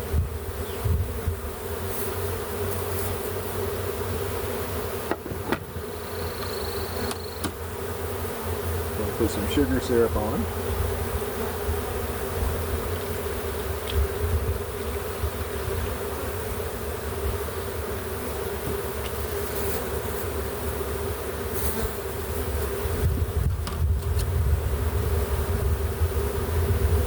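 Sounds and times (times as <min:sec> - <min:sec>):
bee swarm buzzing: 0:00.0 - 0:27.0.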